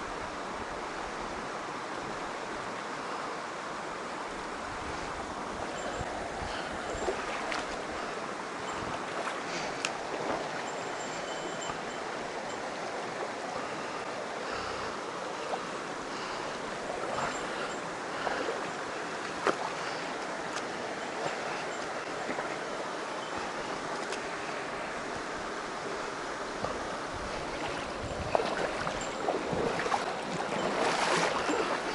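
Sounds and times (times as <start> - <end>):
stream water rushing: 0.0 - 31.9.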